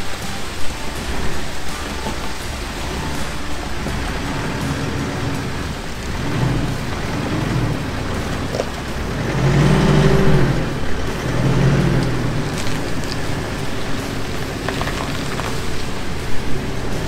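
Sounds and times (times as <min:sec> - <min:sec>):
car engine under load: 0:00.0 - 0:17.0
road and tyre noise: 0:00.0 - 0:17.0.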